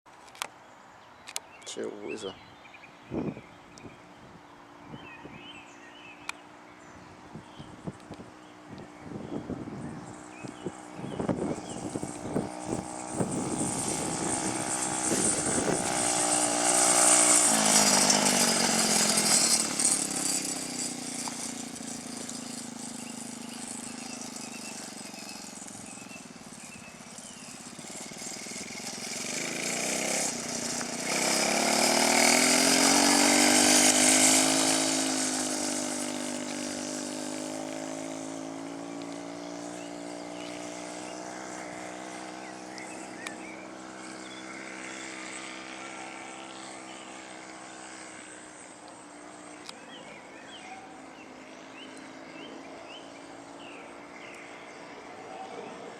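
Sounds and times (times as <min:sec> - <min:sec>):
dirt bike passing by: 0:00.4 - 0:55.9.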